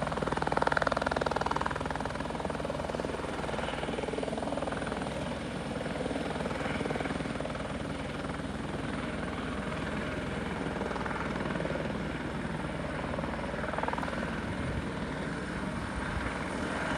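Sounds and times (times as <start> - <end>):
helicopter engine and rotors: 0.0 - 16.9.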